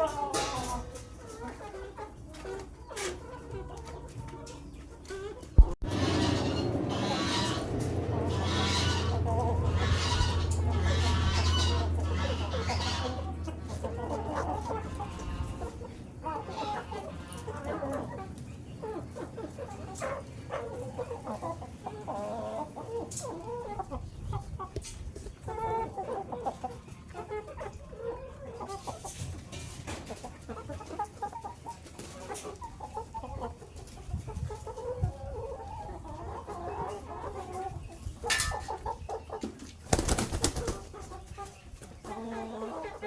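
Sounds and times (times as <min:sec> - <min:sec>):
chickens clucking: 0:00.0 - 0:43.0.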